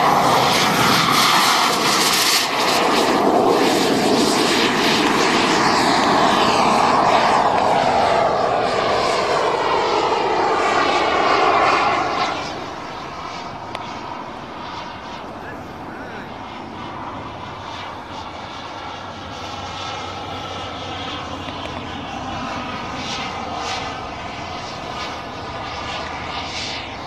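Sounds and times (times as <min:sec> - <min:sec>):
model jet turbine roar: 0:00.0 - 0:27.0.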